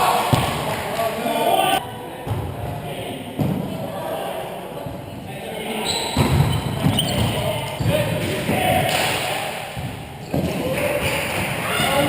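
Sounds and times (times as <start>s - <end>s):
players' voices: 0.0s - 12.0s.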